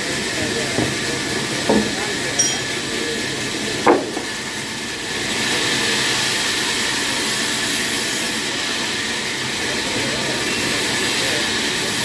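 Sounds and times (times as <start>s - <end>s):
hissing machine noise: 0.0s - 12.0s.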